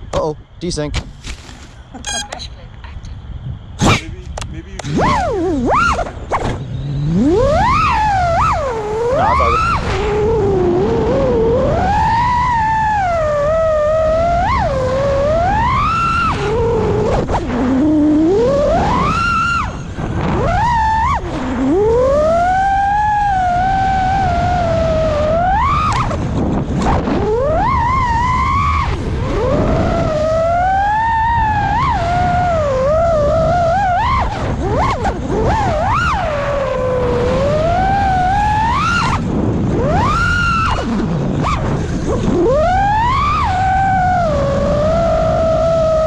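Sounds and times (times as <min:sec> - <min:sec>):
drone motors whining: 0:01.6 - 0:46.0.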